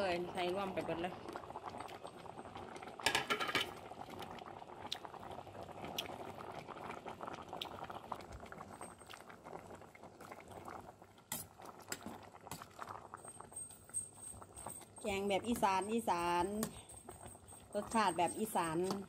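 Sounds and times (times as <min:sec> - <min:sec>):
curry boiling and bubbling: 0:00.0 - 0:19.0.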